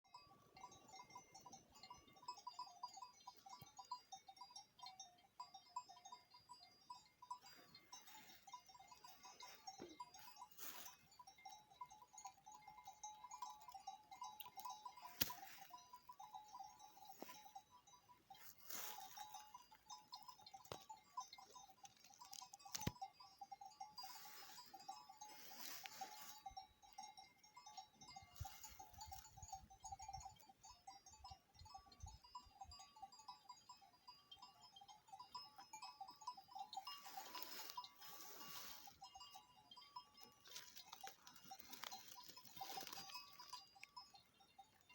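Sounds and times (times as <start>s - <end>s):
distant livestock flock: 0.1s - 44.9s.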